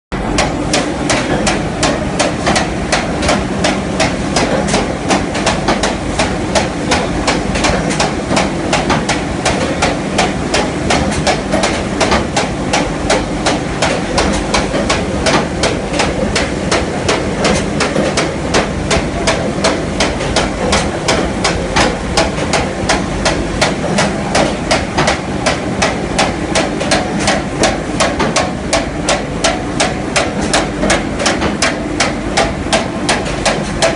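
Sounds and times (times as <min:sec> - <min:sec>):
machine knocking rhythmically: 0:00.1 - 0:33.9
steady mechanical noise: 0:00.1 - 0:33.9.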